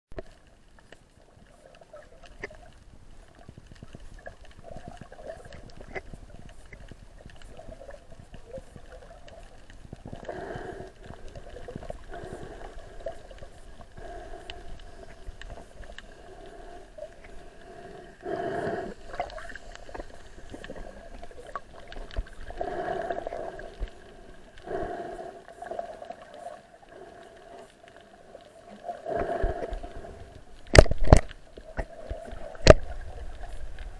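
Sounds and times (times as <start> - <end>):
low underwater hum: 0.2 - 33.9
water noise swells: 0.2 - 33.9.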